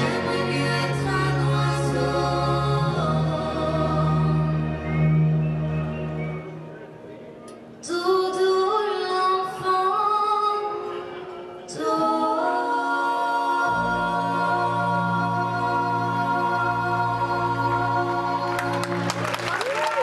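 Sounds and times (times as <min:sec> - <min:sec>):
vocal group singing a cappella: 0:00.0 - 0:05.3, 0:07.8 - 0:19.2.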